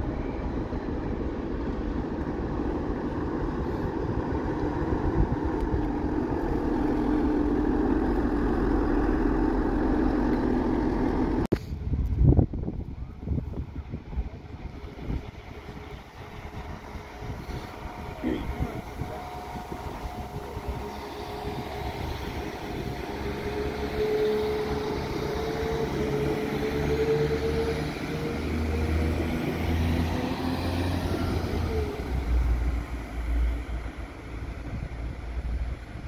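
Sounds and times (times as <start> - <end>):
passenger train pulling away: 0.0 - 36.0
train whine: 0.0 - 36.0
wind buffeting microphone: 0.0 - 36.0.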